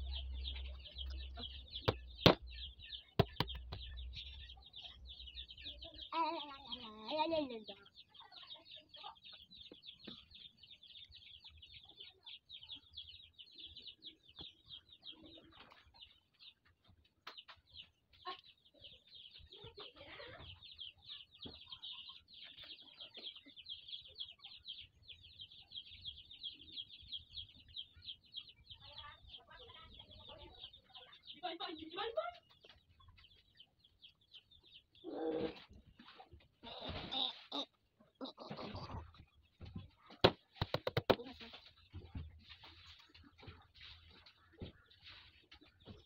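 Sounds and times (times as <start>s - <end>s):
chicks peeping: 0.0s - 46.0s.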